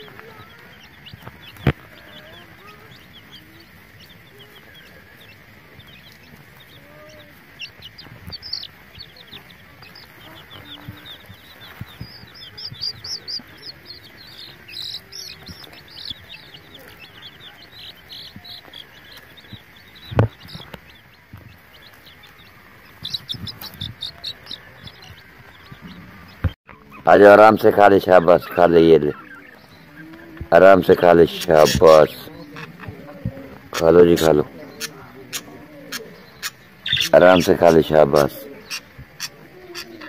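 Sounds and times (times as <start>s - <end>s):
chicks peeping: 0.0s - 40.0s.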